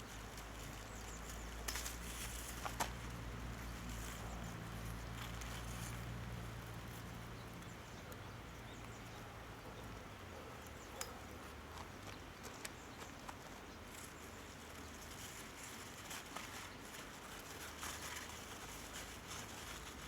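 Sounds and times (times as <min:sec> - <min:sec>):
rustling of vines and leaves: 0:00.0 - 0:11.0, 0:12.0 - 0:20.0.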